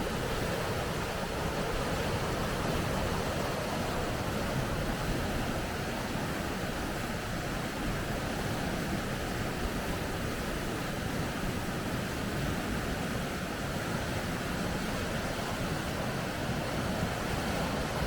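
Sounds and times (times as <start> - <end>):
water rushing over rapids: 0.0 - 18.0.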